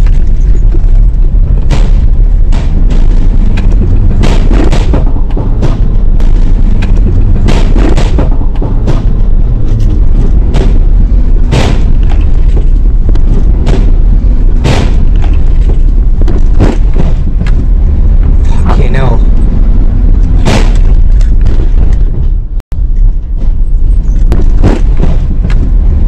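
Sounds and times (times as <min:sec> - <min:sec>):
distorted van engine rumble: 0:00.0 - 0:26.0
thumps: 0:00.0 - 0:26.0.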